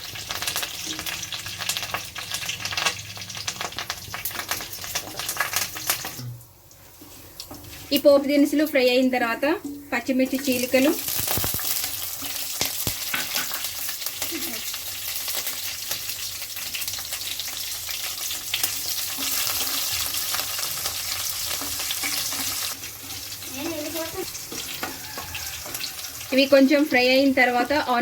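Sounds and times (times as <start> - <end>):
spices sizzling in hot oil: 0.0 - 28.0.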